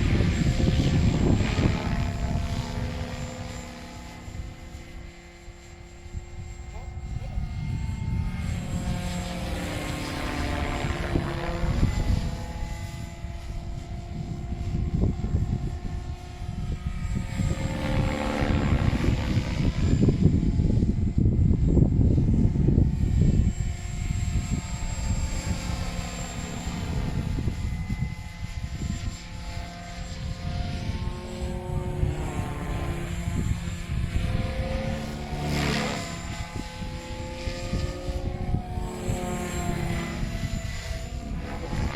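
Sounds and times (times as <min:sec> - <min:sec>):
rc helicopter motor whine: 0:00.0 - 0:41.9
wind rumble on microphone: 0:00.0 - 0:41.9.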